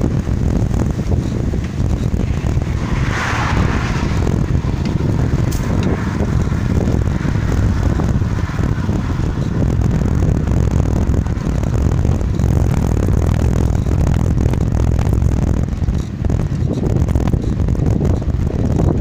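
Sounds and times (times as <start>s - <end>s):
tyres rumbling on rough track: 0.0s - 19.0s
wind buffeting microphone: 0.0s - 19.0s.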